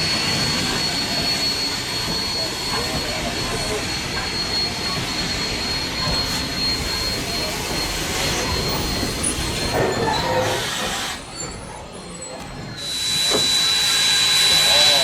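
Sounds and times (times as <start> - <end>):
train rolling along rails: 0.0 - 15.0.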